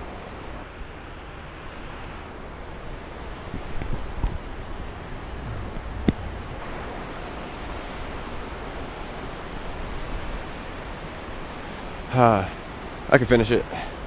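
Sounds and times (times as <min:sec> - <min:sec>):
high-pitched whine: 0:00.0 - 0:00.7, 0:01.8 - 0:14.0
steady hiss: 0:00.0 - 0:14.0.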